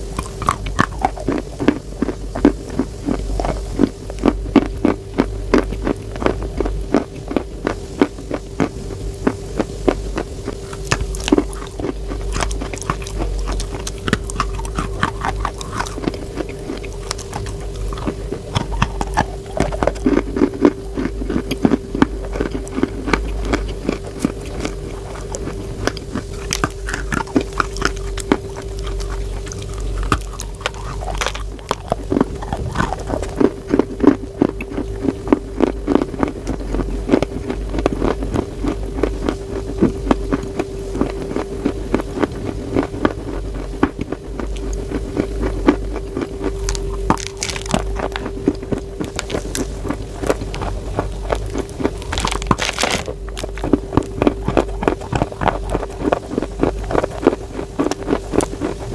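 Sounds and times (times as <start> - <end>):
chewing and crunching chalk: 0.0 - 58.9
steady low hum: 0.0 - 58.9.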